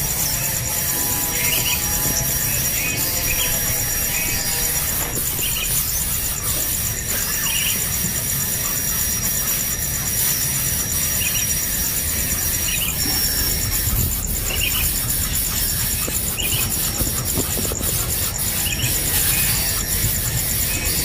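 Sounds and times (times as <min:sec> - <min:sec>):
low rumbling noise: 0:00.0 - 0:08.7, 0:10.8 - 0:21.0
insect drone with pulsing trill: 0:00.0 - 0:21.0.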